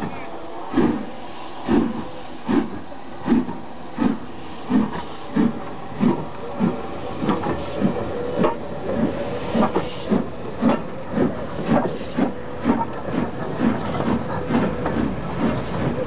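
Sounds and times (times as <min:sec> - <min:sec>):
steam hissing from cylinders: 0:00.0 - 0:16.0
steam locomotive exhaust beats: 0:00.0 - 0:16.0.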